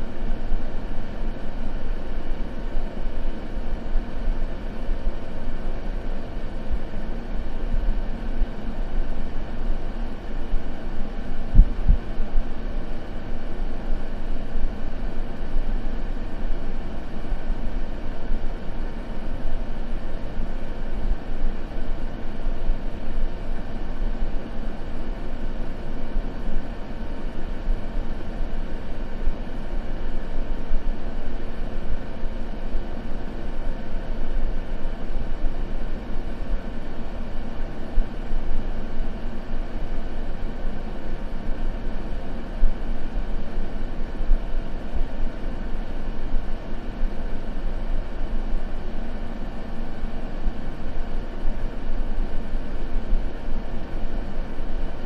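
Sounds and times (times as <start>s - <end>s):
low white noise: 0.0s - 55.0s.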